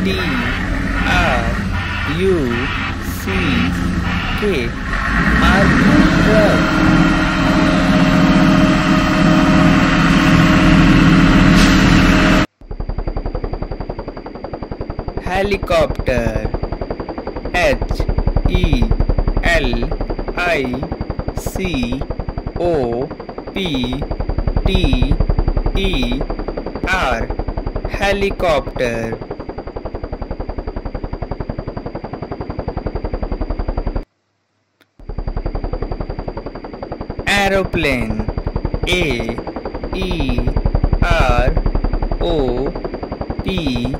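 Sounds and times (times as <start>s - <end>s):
thin high whine: 0.0s - 33.4s, 35.0s - 43.9s
truck engine running: 0.0s - 34.0s, 35.0s - 43.9s
helicopter rotor chopping: 0.0s - 34.1s, 34.9s - 43.9s.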